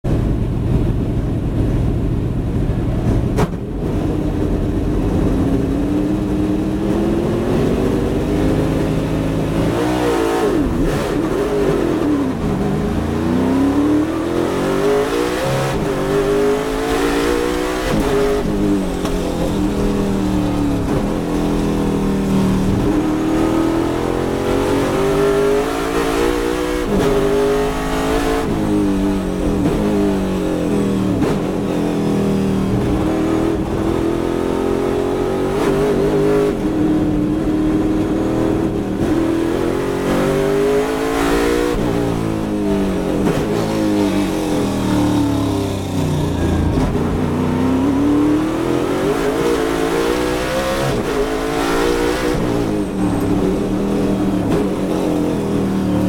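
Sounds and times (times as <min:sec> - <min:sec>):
race car engine revving: 0:03.0 - 0:56.0.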